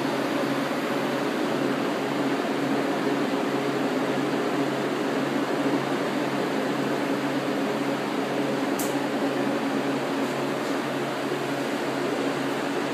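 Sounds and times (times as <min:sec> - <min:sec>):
fan rushing: 0:00.0 - 0:12.9.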